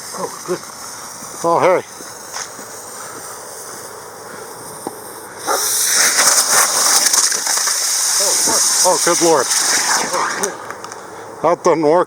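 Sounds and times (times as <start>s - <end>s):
firework crackling: 0.0s - 11.3s
ground firework hissing: 0.0s - 11.6s.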